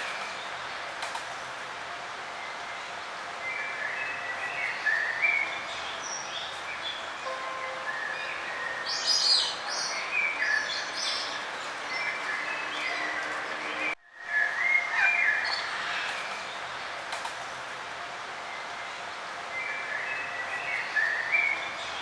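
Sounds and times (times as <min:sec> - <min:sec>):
songbirds chirping: 0:00.0 - 0:22.0
steady outdoor hiss: 0:00.0 - 0:22.0.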